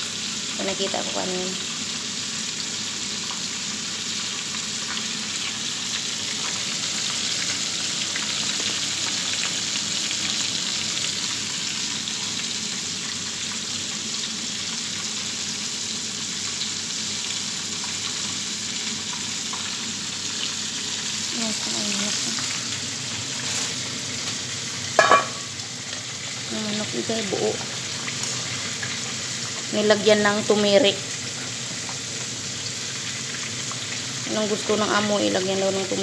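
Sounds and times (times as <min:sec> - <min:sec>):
chicken frying in hot oil: 0:00.0 - 0:36.0.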